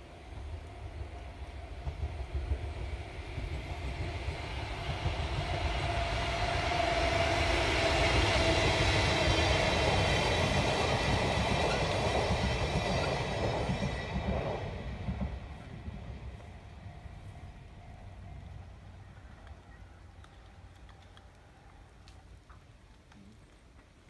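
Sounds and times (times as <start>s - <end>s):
train wheels on rails: 0.0s - 22.6s.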